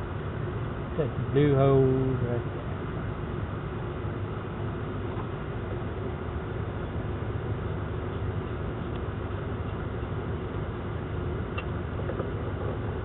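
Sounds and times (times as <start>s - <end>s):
faint hum: 0.0s - 13.0s
low background rumble: 0.0s - 13.0s.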